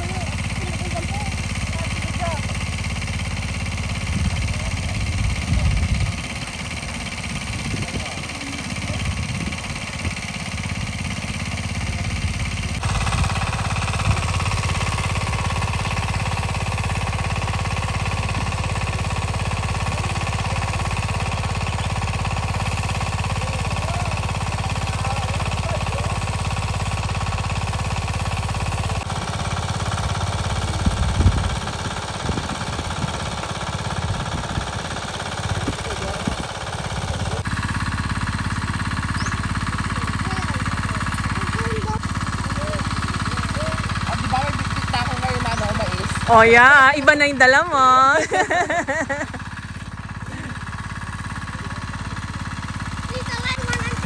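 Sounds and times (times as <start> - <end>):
small engine thumping: 0.0 - 54.0.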